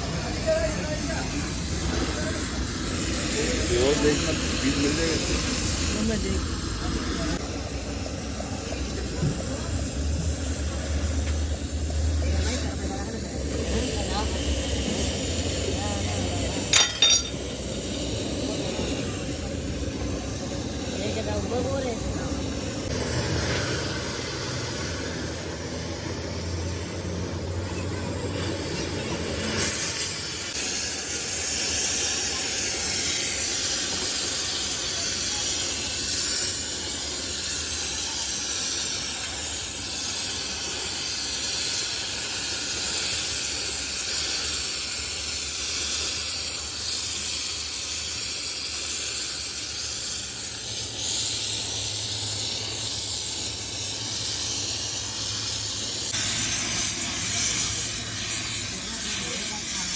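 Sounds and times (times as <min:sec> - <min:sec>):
steady hissing: 0:00.0 - 0:59.9.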